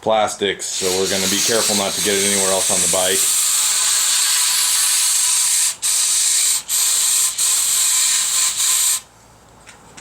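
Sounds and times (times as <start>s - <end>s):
aerosol can spraying hiss: 0.7s - 9.1s.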